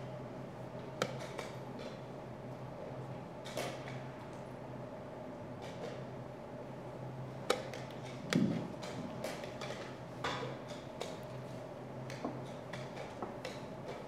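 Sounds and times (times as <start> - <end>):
low hum of hall: 0.0 - 14.0.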